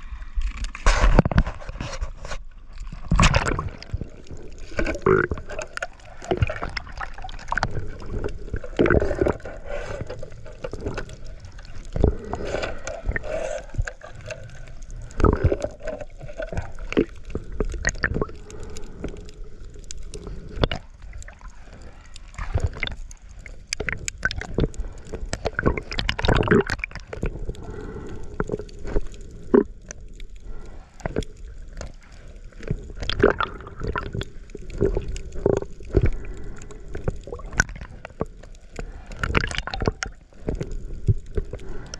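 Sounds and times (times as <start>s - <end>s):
water gurgling underwater: 2.6s - 41.9s.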